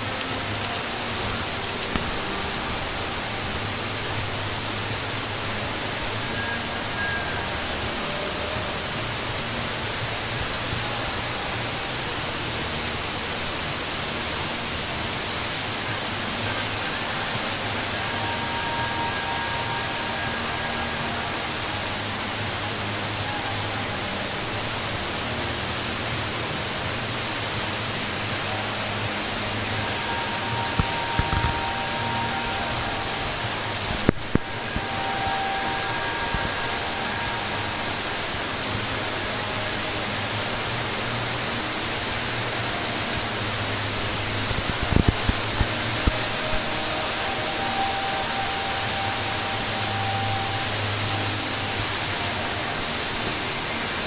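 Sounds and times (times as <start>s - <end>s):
rushing hiss: 0.0s - 54.0s.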